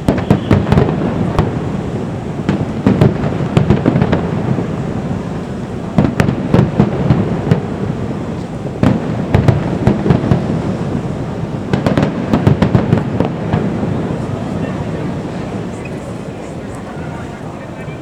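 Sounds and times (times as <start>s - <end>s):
distant fireworks booms: 0.0s - 18.0s
fireworks sharp bangs: 0.0s - 18.0s.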